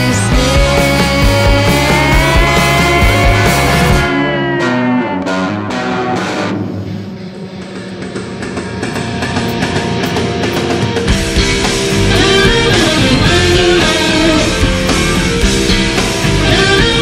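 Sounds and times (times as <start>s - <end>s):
guitar-led rock music: 0.0s - 17.0s.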